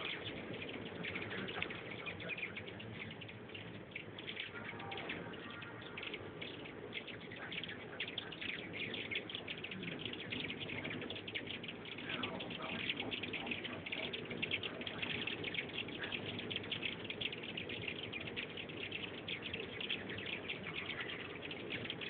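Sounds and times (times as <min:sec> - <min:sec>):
hummingbirds chirping: 0:00.0 - 0:22.0
steady low hum: 0:00.0 - 0:22.0.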